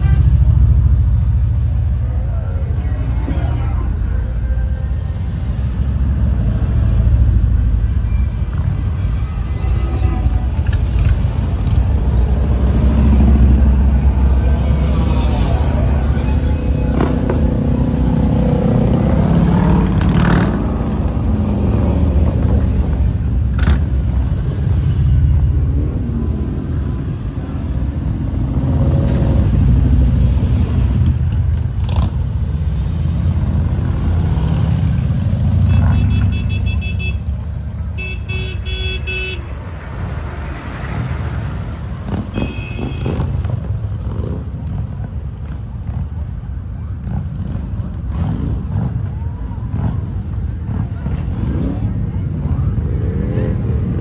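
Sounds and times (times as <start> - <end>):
motorcycle engine rumbling: 0.0 - 54.0
traffic: 0.0 - 54.0.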